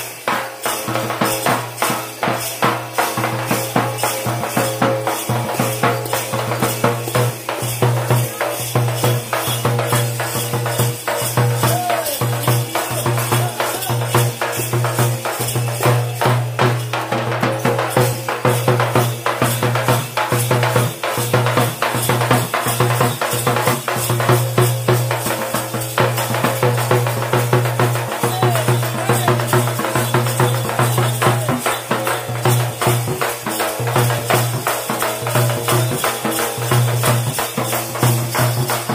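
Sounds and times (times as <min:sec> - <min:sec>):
drums beating fast rhythm: 0:00.0 - 0:38.9.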